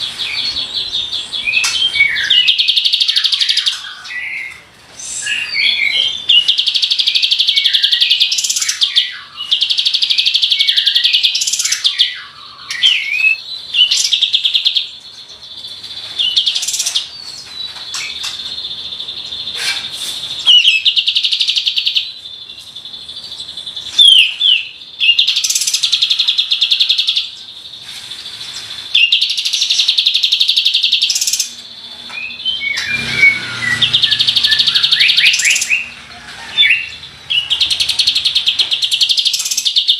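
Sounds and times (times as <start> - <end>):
bird singing rolling trills: 0.0 - 39.9.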